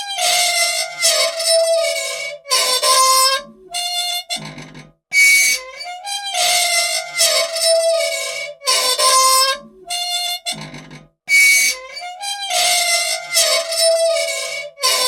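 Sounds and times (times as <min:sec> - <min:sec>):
squeaky machine squealing: 0:00.0 - 0:15.0.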